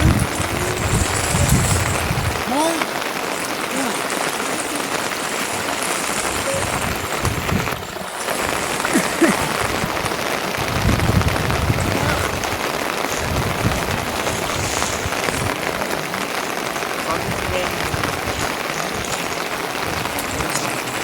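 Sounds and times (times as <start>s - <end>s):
steady rain patter: 0.0s - 21.0s.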